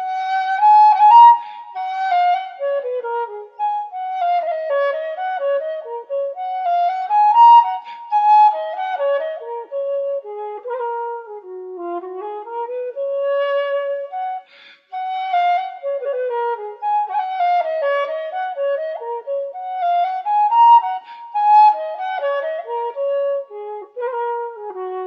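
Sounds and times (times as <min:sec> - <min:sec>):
solo woodwind melody: 0:00.0 - 0:25.0.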